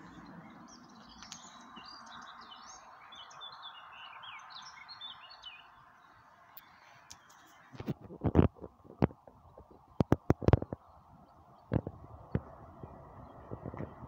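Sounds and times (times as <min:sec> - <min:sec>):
faint background noise: 0:00.0 - 0:14.0
small birds chirping: 0:00.0 - 0:14.0.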